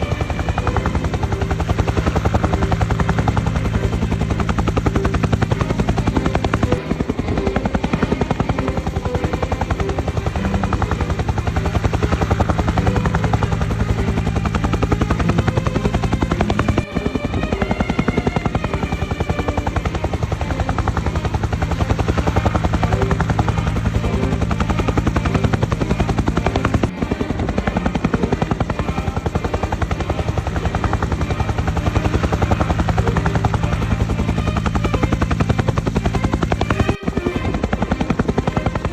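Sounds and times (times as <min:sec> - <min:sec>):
helicopter rotor blades chopping: 0:00.0 - 0:38.9.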